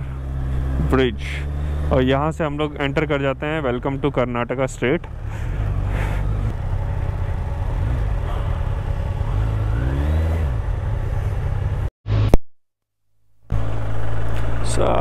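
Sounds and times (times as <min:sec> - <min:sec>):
motorcycle engine running: 0:00.0 - 0:12.3, 0:13.5 - 0:15.0
road rumble: 0:00.0 - 0:12.4, 0:13.5 - 0:15.0.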